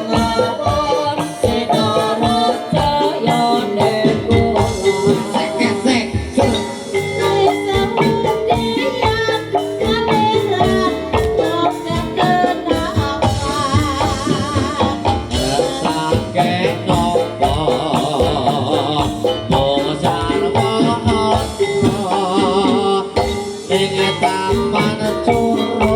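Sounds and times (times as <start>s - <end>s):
busy drum beat: 0.0s - 25.9s
rattling percussion: 0.0s - 25.9s
wavering vibrato melody: 0.0s - 25.9s.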